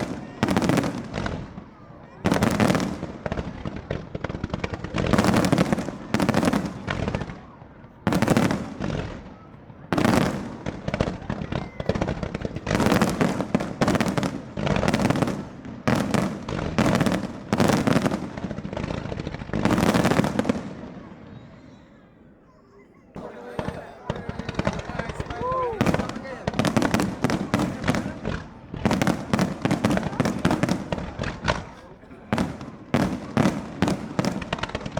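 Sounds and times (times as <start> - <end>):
fireworks bangs with crackle: 0.0 - 21.6, 23.2 - 34.9.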